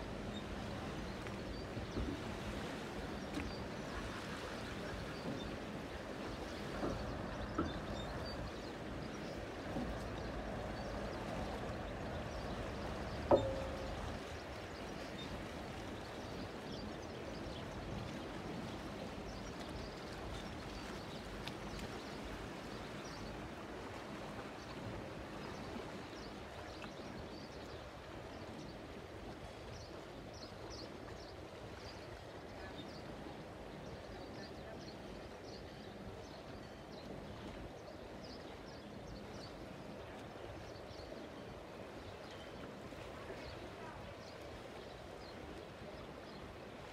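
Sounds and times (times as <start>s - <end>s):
river water: 0.0s - 46.9s
ship engine rumble: 0.0s - 46.9s.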